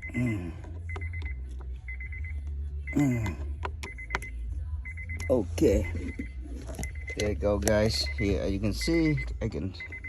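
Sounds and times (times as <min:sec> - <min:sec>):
car warning chime beeping: 0:00.0 - 0:10.0.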